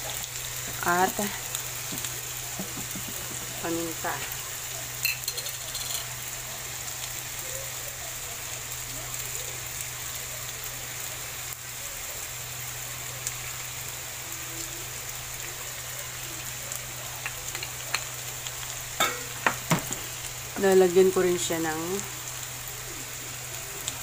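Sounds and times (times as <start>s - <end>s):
stir-fry sizzling in a frying pan: 0.0s - 24.0s.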